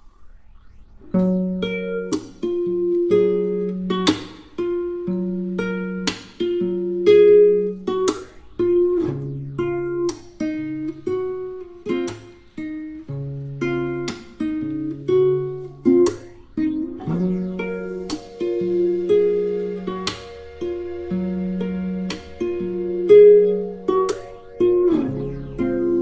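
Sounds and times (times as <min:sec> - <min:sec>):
plucked acoustic guitar: 0:01.2 - 0:26.0.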